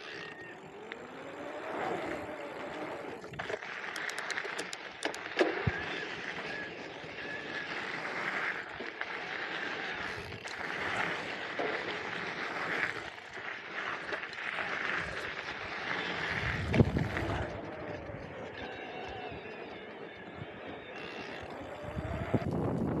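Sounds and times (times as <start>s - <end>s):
tyres rolling over gravel: 0.0s - 23.0s.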